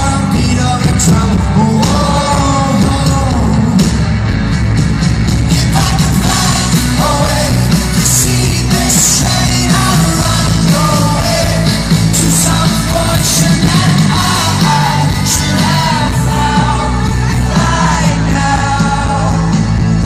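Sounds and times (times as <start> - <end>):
man singing: 0.0 - 4.0, 5.5 - 20.0
rock band playing live: 0.0 - 20.0.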